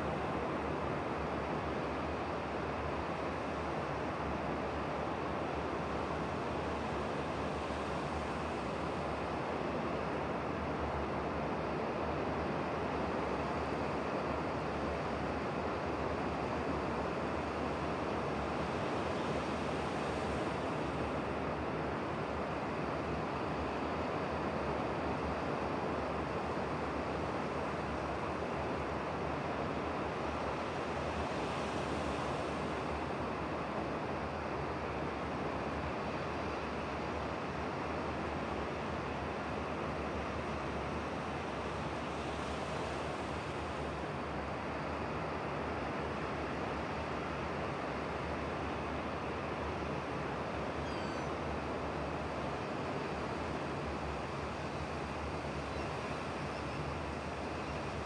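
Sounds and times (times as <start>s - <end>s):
sea surf on stony shore: 0.0s - 58.0s.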